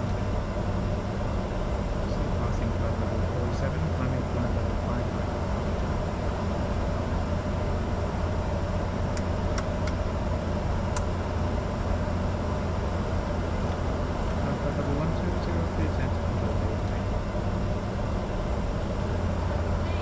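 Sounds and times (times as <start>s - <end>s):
jet engine and airflow rumble: 0.0s - 20.0s
steady hum: 0.0s - 20.0s.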